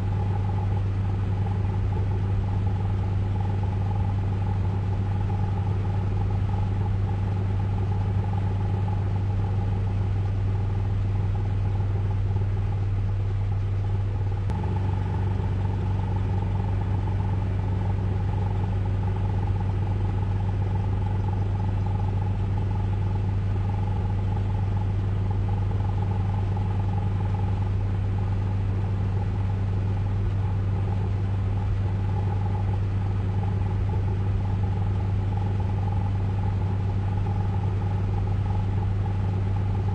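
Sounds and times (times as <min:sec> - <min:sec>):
car wash machinery drone: 0:00.0 - 0:39.9
faint steady whine: 0:00.0 - 0:39.9.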